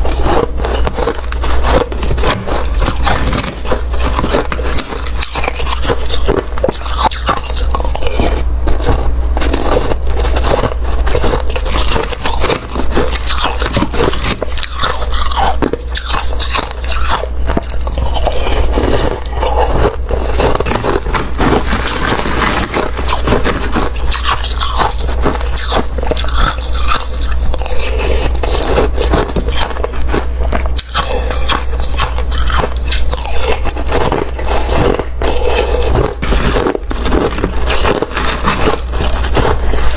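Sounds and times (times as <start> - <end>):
slushy ice being chewed: 0.0 - 39.9.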